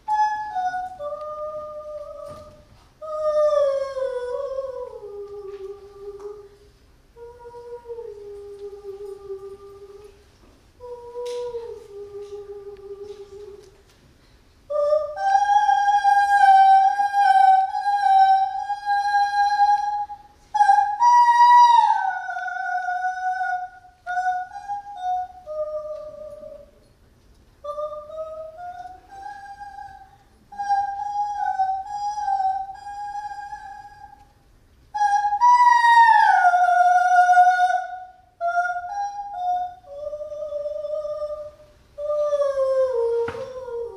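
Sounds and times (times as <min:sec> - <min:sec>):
woman singing unaccompanied: 0:00.0 - 0:10.2, 0:10.8 - 0:13.8, 0:14.7 - 0:26.8, 0:27.6 - 0:34.3, 0:34.9 - 0:43.9.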